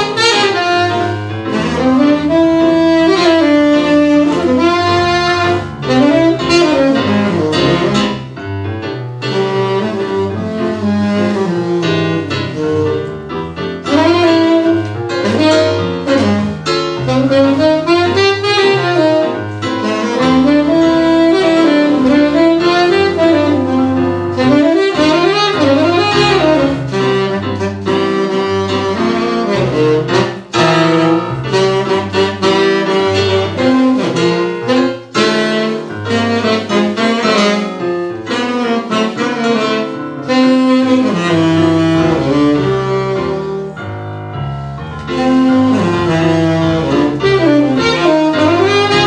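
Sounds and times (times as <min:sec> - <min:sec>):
keyboard accompaniment: 0:00.0 - 0:49.0
tenor saxophone jazz melody: 0:00.0 - 0:49.0.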